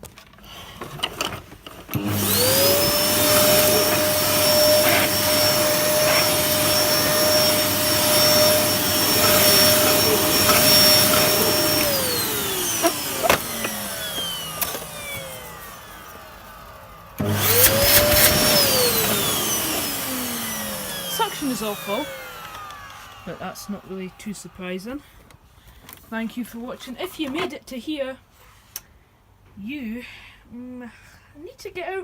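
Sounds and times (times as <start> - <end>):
vacuum cleaner motor whining: 0.4 - 26.0.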